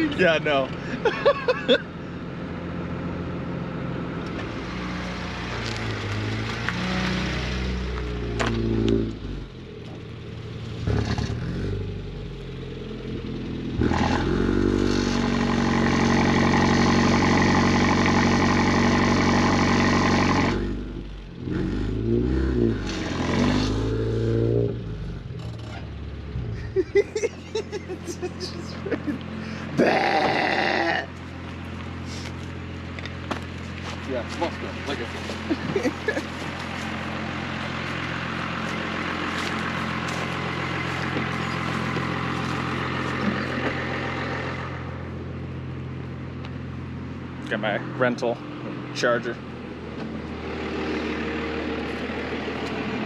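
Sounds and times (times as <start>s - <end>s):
diesel truck engine accelerating: 0.0s - 53.0s.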